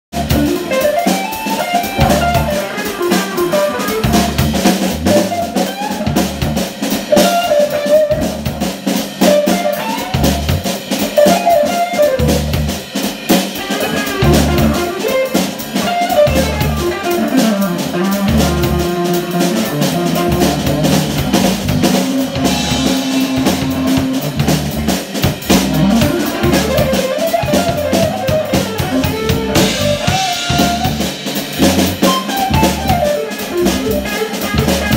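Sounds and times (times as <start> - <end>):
live band playing instrumental: 0.1 - 34.9.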